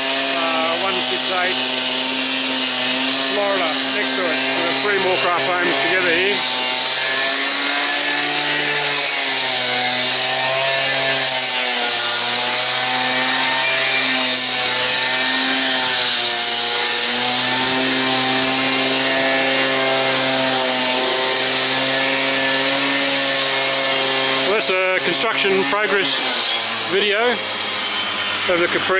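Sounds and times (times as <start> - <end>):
concrete saw cutting: 0.0 - 28.9.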